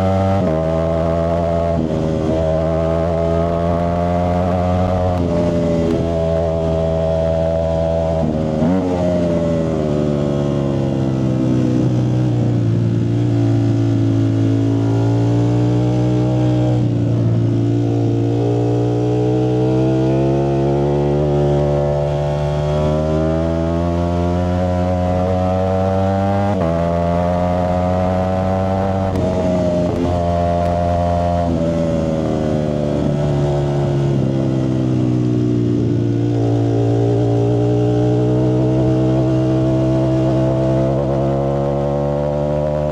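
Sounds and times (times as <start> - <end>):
motorcycle engine running: 0.0 - 18.5, 23.5 - 42.9.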